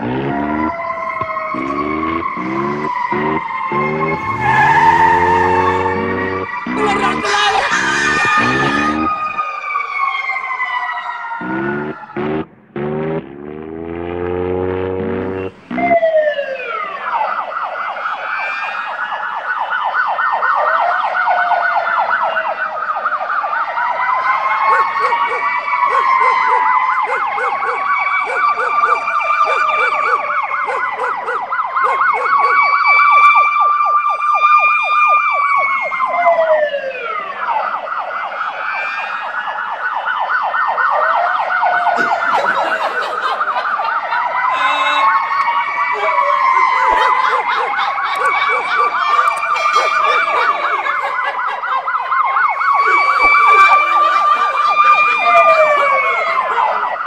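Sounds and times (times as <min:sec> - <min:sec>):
siren wailing: 0:00.0 - 0:57.0.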